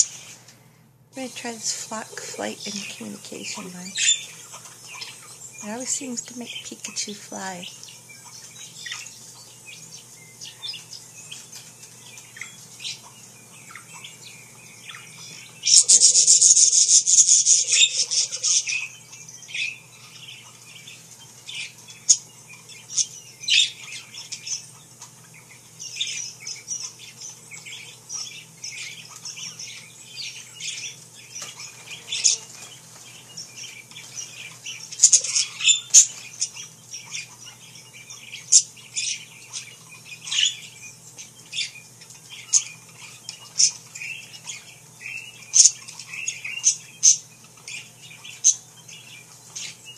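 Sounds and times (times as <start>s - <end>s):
parakeets chirping and squawking: 1.2s - 49.9s.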